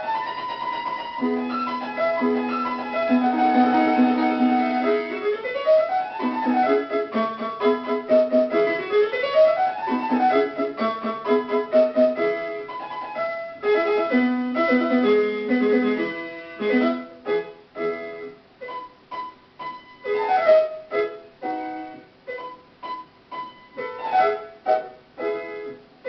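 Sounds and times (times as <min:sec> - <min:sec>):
lively piano tune: 0:00.0 - 0:26.0.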